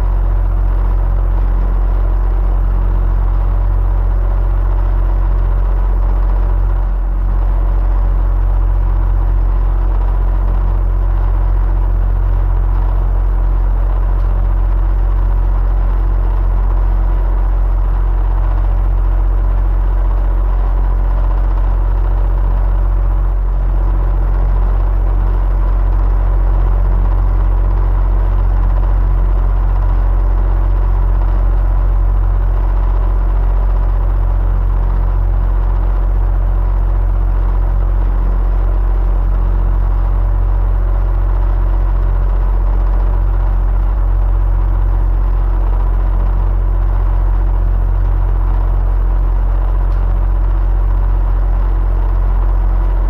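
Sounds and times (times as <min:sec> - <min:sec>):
electric fan humming: 0:00.0 - 0:53.0.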